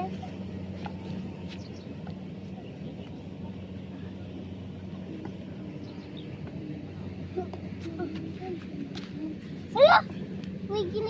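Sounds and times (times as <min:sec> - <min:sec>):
combine harvester engine humming: 0:00.0 - 0:11.0.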